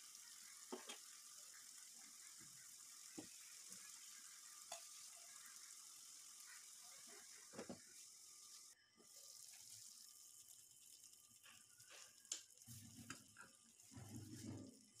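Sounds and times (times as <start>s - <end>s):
faint sizzling in a pan: 0.0s - 15.0s.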